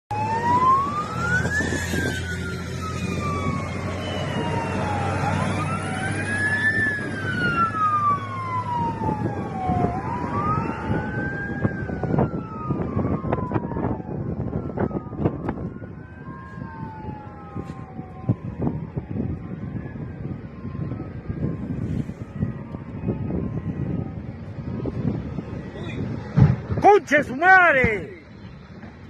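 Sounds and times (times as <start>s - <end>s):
fire truck sirens wailing: 0.1s - 29.0s.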